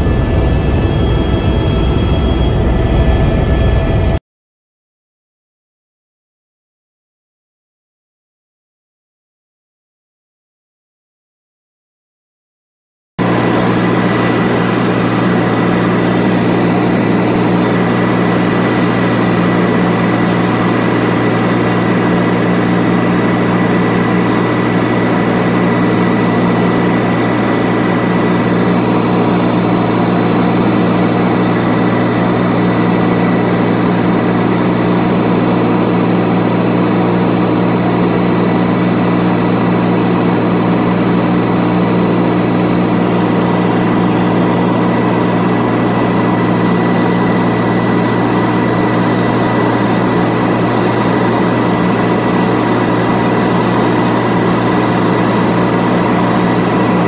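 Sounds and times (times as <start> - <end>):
helicopter rotor and engine drone: 0.0 - 4.2, 13.2 - 57.0
high whine: 0.0 - 4.2, 13.2 - 57.0.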